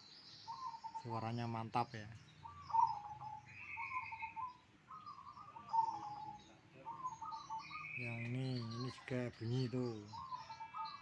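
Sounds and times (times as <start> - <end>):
songbirds warbling: 0.0 - 11.0.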